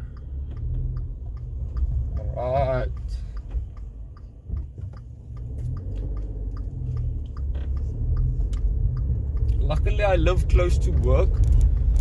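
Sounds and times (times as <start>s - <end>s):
car engine rumble: 0.0s - 12.0s
faint regular ticking: 0.0s - 12.0s
road noise inside car: 0.0s - 12.0s.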